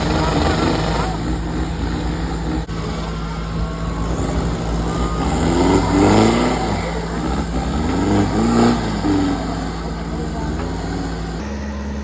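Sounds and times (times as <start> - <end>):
engine revving: 0.0 - 12.0
off-road engine rumbling: 0.0 - 12.0.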